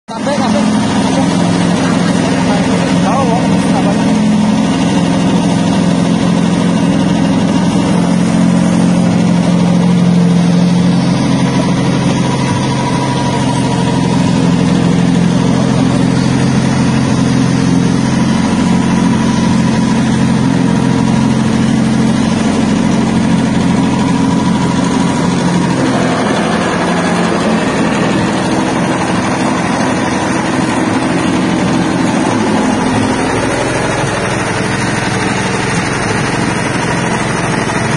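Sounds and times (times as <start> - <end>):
bean dehulling machine running: 0.1 - 37.9.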